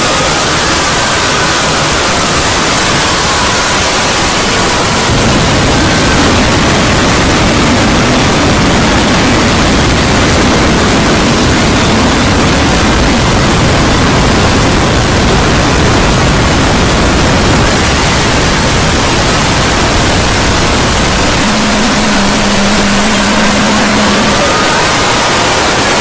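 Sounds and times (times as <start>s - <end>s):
harsh static-like noise: 0.0s - 26.0s
steady low hum: 0.0s - 26.0s.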